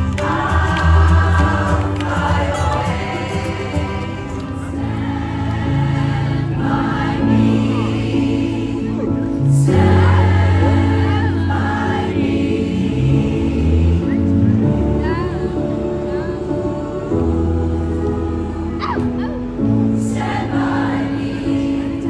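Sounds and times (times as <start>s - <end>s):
choir singing in harmony: 0.0s - 22.0s.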